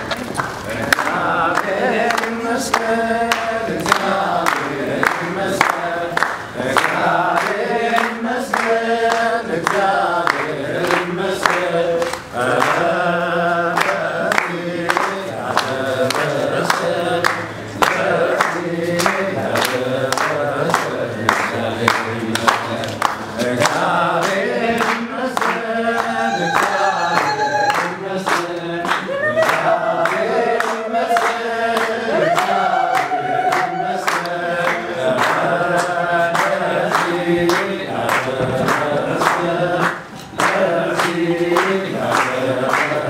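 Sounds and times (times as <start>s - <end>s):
choir singing a hymn: 0.6s - 43.0s.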